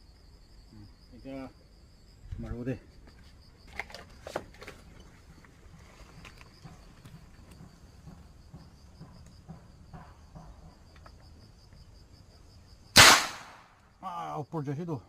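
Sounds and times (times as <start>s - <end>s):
cricket trill: 0.0s - 15.0s.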